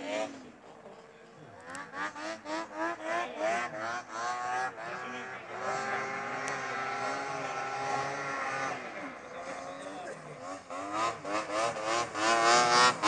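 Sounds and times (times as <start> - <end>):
snowmobile engine revving: 0.0 - 1.0, 1.6 - 13.0.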